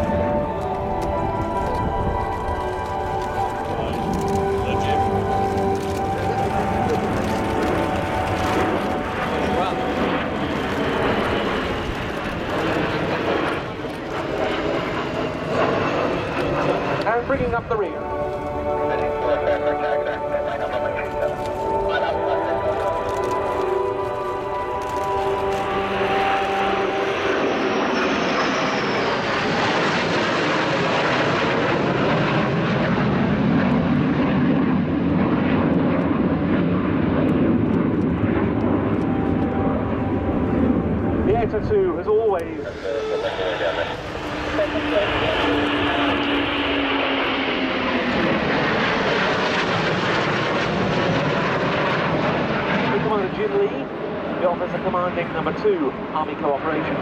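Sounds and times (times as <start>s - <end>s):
jet plane flying past: 0.0s - 57.0s.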